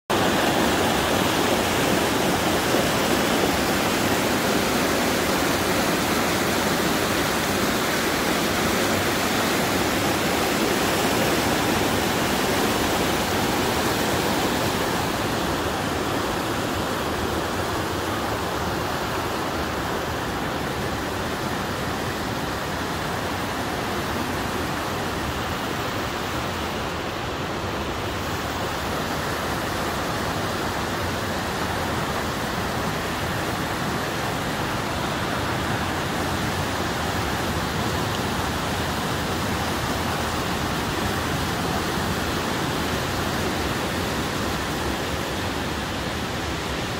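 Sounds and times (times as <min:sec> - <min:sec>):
stream rushing over boulders: 0:00.0 - 0:46.9.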